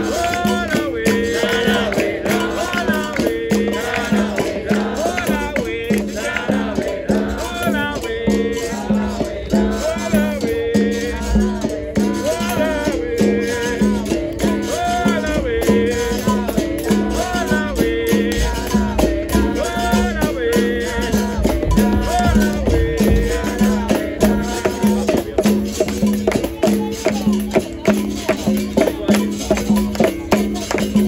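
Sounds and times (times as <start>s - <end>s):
hand percussion: 0.0s - 31.0s
rattling shaker: 0.0s - 31.0s
voices singing: 0.0s - 31.0s.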